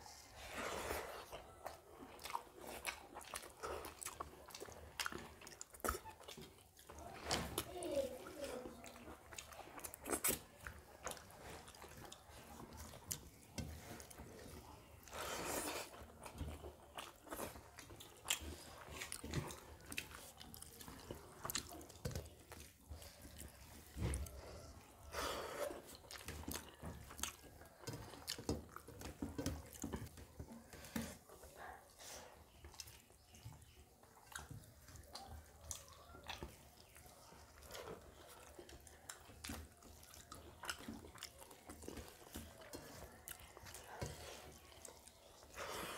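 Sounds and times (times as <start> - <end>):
wet chewing and lip smacking: 1.0 - 45.9.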